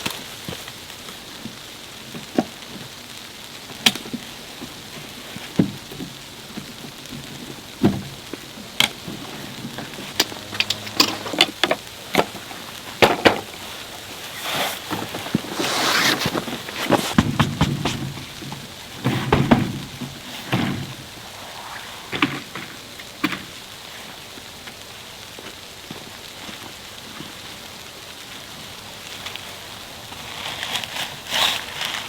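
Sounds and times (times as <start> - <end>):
snow ticking on surfaces: 0.0 - 32.0
snowstorm hiss: 0.2 - 30.5.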